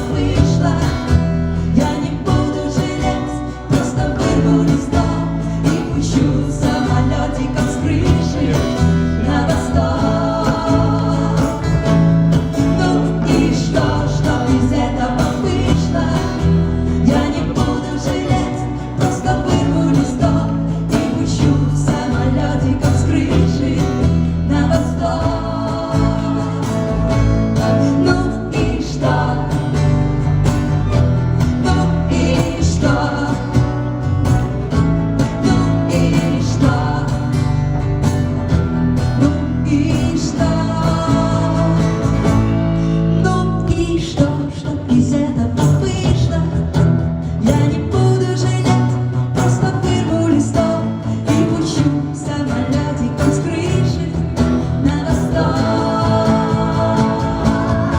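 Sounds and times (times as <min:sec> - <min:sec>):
woman singing: 0:00.0 - 0:30.0, 0:31.5 - 0:34.3, 0:35.2 - 0:37.6, 0:39.2 - 0:42.5, 0:43.1 - 0:57.9
double bass: 0:00.0 - 0:57.9
guitar: 0:00.0 - 0:57.9.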